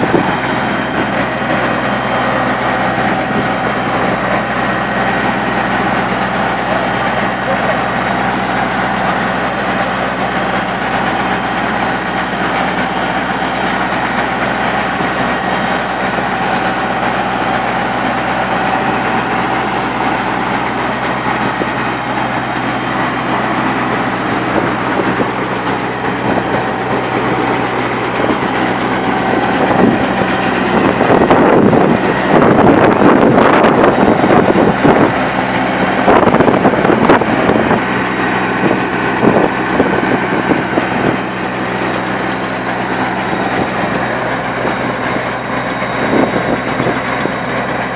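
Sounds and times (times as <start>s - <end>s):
baler mechanical clatter: 0.0s - 47.9s
tractor engine running: 0.0s - 47.9s.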